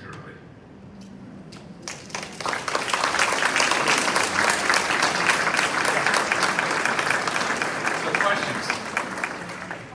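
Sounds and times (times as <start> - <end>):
audience applauding: 1.8 - 9.9.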